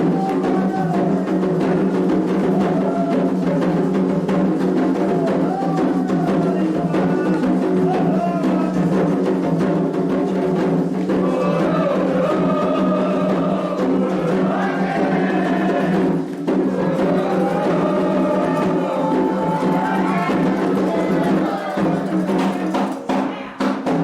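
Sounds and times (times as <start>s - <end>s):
hand drums beating fast rhythm: 0.0s - 24.0s
voices chanting together: 0.0s - 24.0s.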